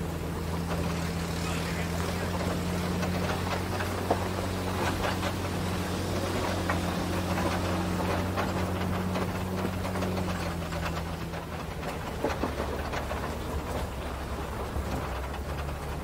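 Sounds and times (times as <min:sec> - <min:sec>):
pickup truck engine running: 0:00.0 - 0:16.0
small clicks and rattles: 0:00.0 - 0:16.0
tyres on gravel: 0:00.0 - 0:16.0.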